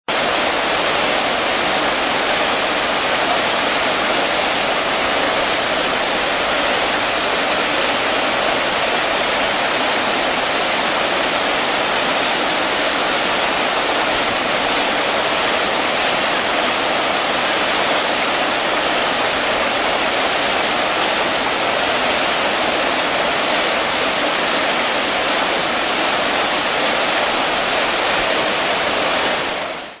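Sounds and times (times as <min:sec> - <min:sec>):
fountain water splashing: 0:00.1 - 0:30.0.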